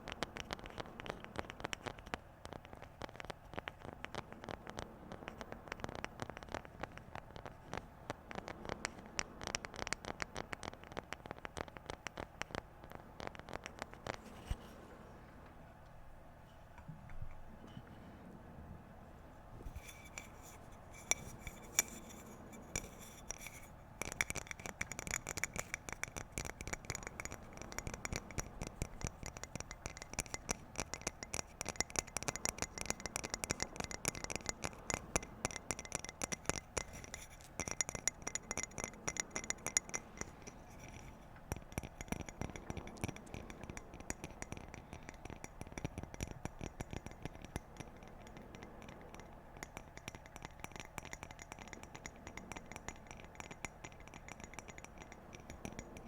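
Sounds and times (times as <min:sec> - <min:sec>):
fingers tapping on hard object: 0:00.0 - 0:14.7, 0:19.6 - 0:56.0.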